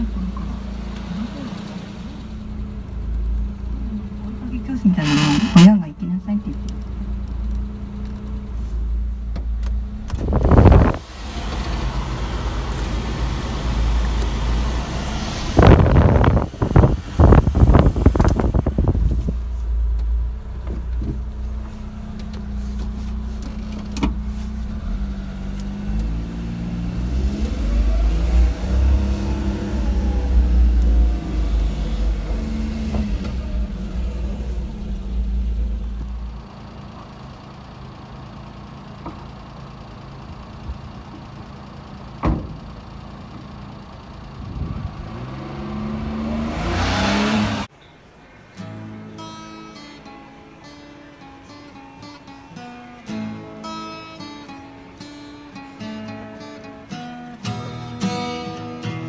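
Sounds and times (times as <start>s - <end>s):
small truck engine running: 0.0s - 47.7s.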